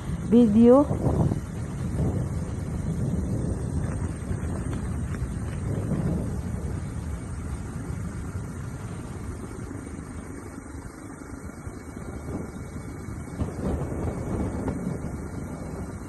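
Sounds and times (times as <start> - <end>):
air noise: 0.0 - 16.0
aircraft engine rumble: 0.0 - 16.0.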